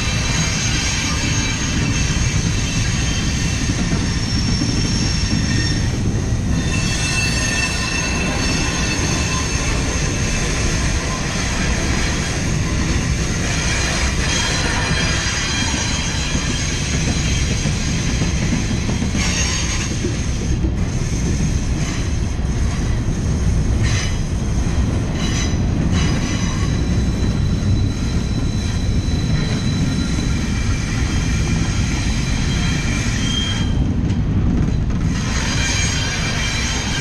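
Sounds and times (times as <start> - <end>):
train wheels rumbling on rail: 0.0 - 37.0
wheels squealing on rail: 0.0 - 37.0.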